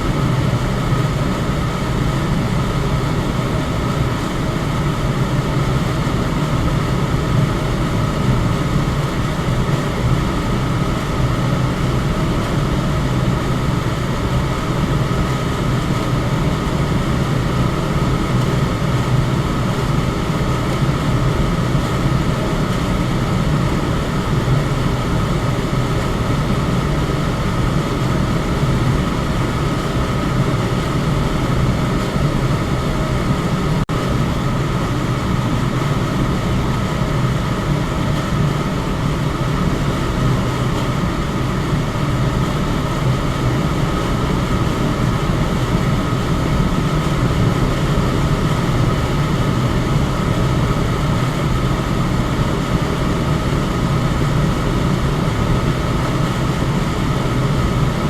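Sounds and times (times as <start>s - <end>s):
electric fan whooshing: 0.0s - 58.0s.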